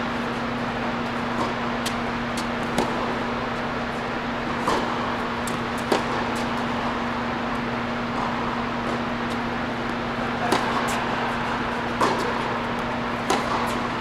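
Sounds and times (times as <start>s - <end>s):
steady background hum: 0.0s - 14.0s
tennis balls struck by rackets: 0.4s - 14.0s.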